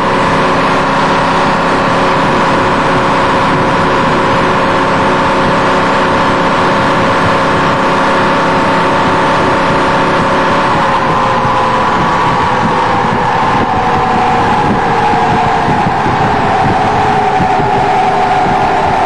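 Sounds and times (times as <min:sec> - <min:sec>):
car engine under load: 0:00.0 - 0:19.0
steady whine: 0:00.0 - 0:19.0.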